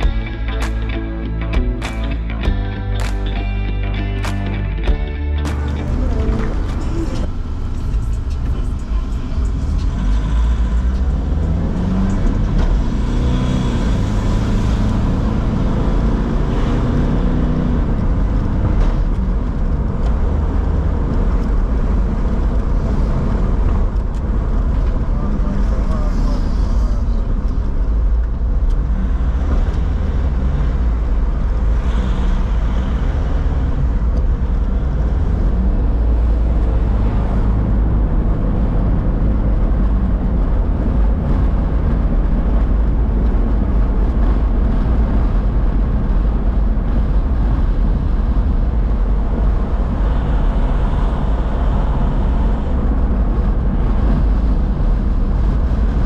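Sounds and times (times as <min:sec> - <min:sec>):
city street traffic rumble: 0:00.0 - 0:56.0.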